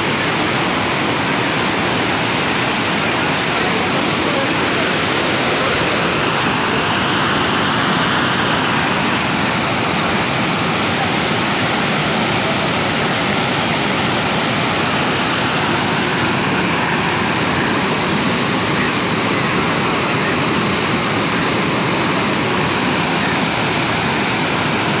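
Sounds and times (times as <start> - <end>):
floodwater rushing under bridge: 0.0 - 25.0.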